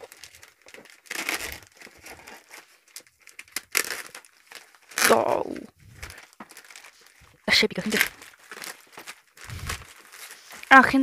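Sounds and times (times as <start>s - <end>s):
plastic bag tearing: 0.0s - 11.0s.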